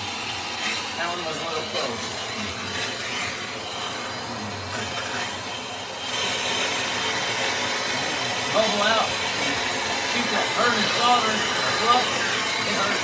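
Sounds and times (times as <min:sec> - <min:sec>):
torch flame hissing: 0:00.0 - 0:13.0.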